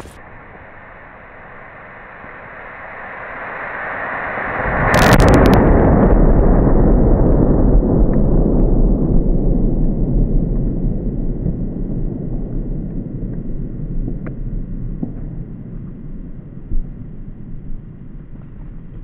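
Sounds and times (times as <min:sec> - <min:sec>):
loud low blast noise: 0:00.0 - 0:17.8.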